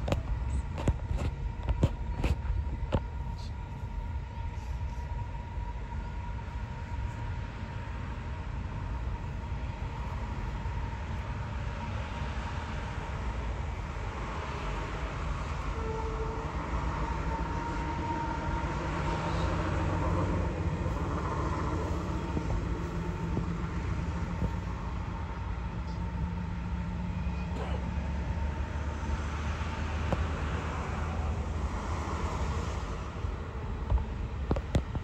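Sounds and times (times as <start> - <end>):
freight train wagons rumbling on track: 0.0 - 35.0.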